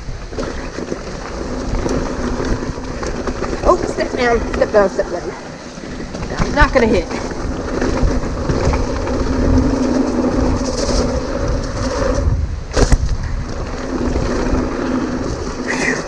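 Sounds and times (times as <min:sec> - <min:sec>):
bike frame rattling: 0:00.0 - 0:16.0
bike tyres rolling on dirt: 0:00.0 - 0:16.0.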